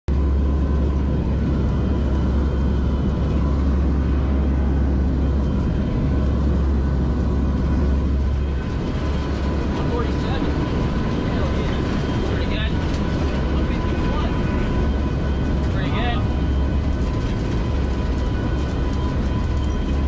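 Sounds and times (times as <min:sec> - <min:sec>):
turboprop engines droning: 0:00.1 - 0:20.0.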